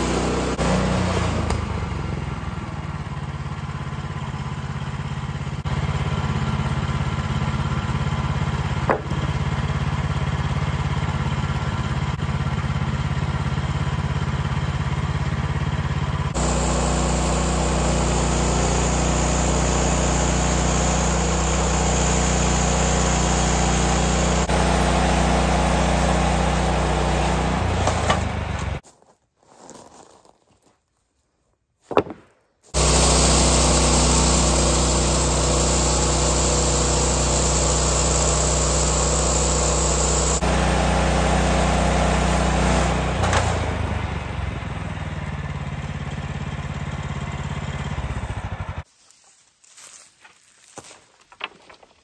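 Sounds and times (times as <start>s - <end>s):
small gasoline engine running: 0.0s - 28.8s, 32.7s - 48.9s.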